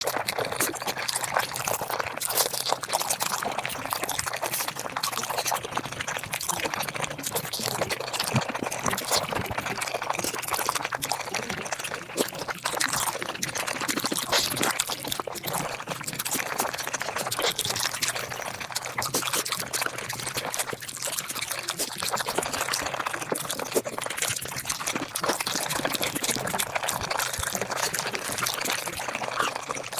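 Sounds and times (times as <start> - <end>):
sped-up wet chewing and slurping: 0.0 - 29.9.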